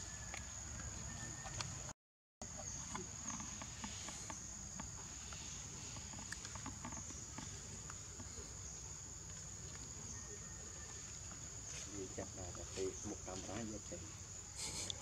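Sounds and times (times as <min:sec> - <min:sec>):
insects droning: 0:00.0 - 0:15.0
faint ticks and rustles: 0:02.6 - 0:15.0.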